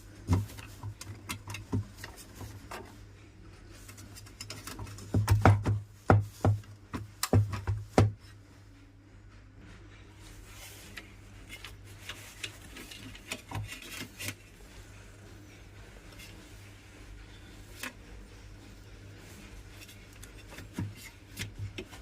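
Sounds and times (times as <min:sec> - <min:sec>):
rubbing and scraping: 0:00.0 - 0:08.5, 0:09.6 - 0:22.0.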